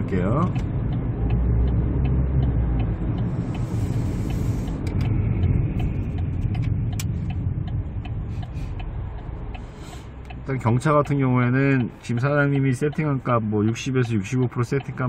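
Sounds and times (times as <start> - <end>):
car engine and road rumble: 0.0 - 15.0
faint regular ticking: 0.0 - 15.0.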